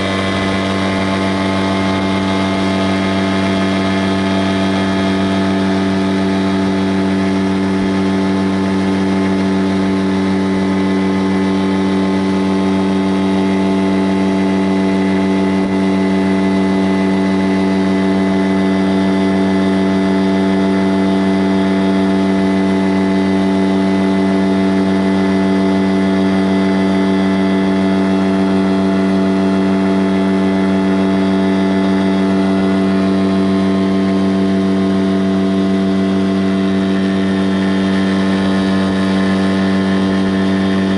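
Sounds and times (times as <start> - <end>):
engine humming steadily: 0.0 - 40.9.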